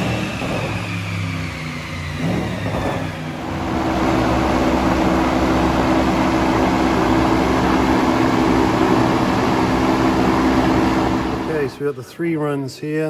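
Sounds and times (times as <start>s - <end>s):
car engine droning on dyno: 0.0s - 12.2s.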